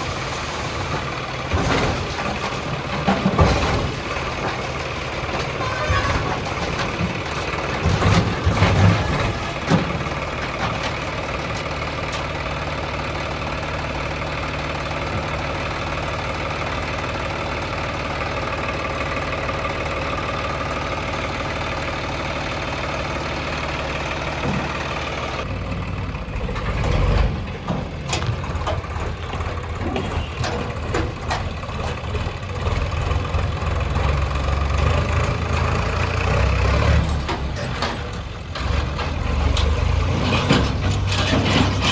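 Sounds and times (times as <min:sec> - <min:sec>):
engine knocks: 0:00.0 - 0:41.9
heavy diesel engine running: 0:00.0 - 0:41.9.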